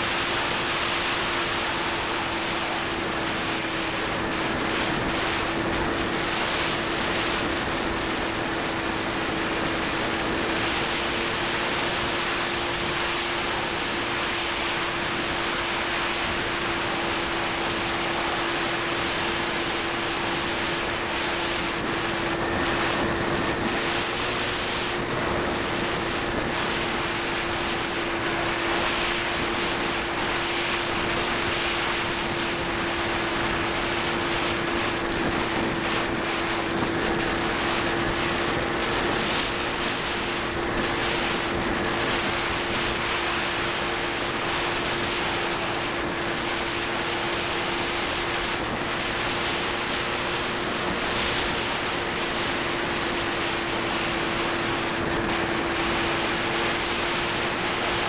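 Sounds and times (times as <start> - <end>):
electric motor and propeller hum: 0.0 - 58.0
wind rushing over microphone: 0.0 - 58.0.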